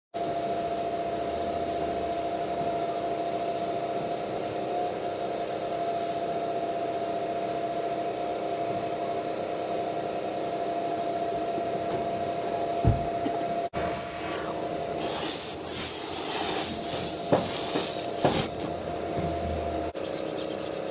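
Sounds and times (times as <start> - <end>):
steady machine hum: 0.2 - 20.9.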